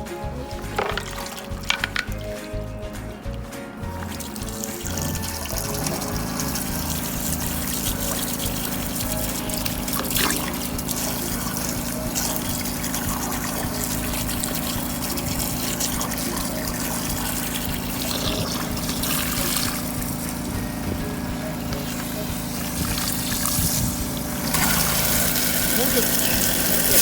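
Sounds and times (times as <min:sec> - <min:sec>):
low hum: 0:00.0 - 0:27.0
water running and trickling: 0:00.5 - 0:27.0.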